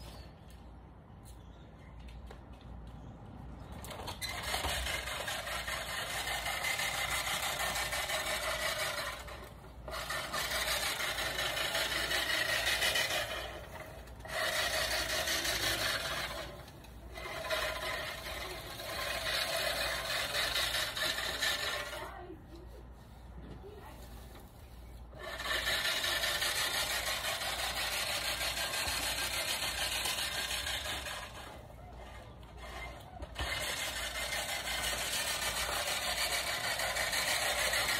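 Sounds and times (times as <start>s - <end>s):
rasping scraping noise: 4.1s - 22.2s, 23.9s - 37.9s.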